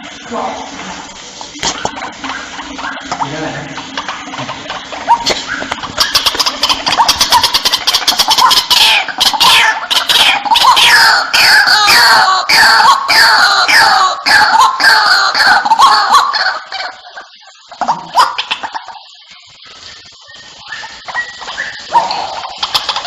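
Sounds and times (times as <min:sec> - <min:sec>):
waterhen calling: 0:01.4 - 0:23.0.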